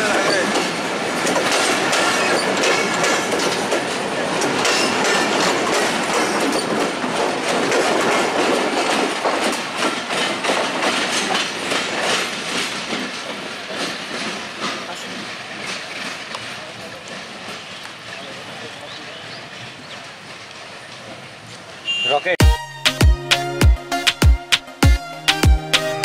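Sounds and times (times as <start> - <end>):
train wheels clattering over rail joints: 0.0 - 21.8.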